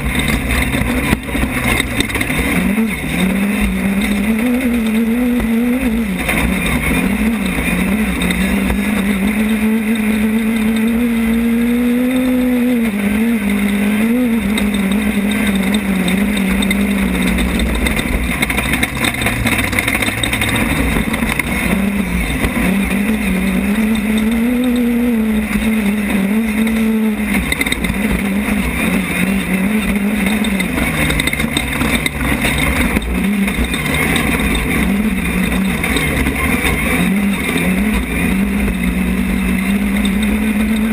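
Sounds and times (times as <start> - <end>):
race car engine running hard: 0.0 - 40.9
rushing rattle of chassis and wind: 0.0 - 40.9.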